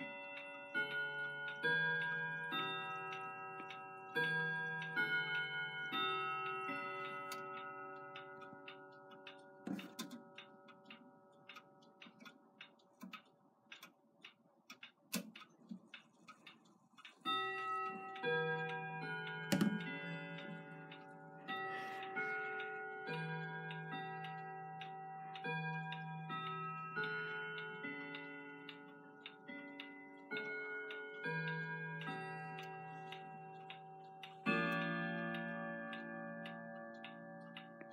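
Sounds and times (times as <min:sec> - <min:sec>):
clock chime melody: 0:00.0 - 0:13.0, 0:17.1 - 0:37.9
clock ticking: 0:00.0 - 0:37.9.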